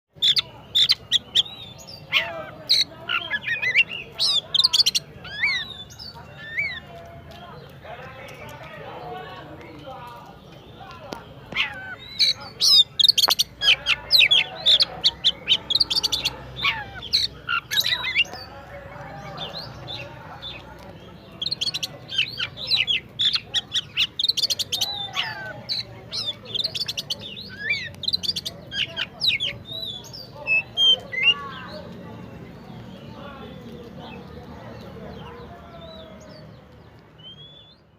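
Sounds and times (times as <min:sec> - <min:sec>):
bird singing: 0:00.1 - 0:37.9.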